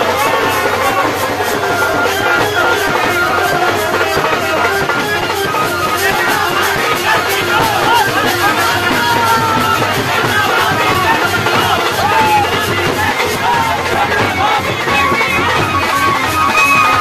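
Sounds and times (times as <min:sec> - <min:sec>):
loud music: 0:00.0 - 0:17.0
steady drum beat: 0:00.0 - 0:17.0.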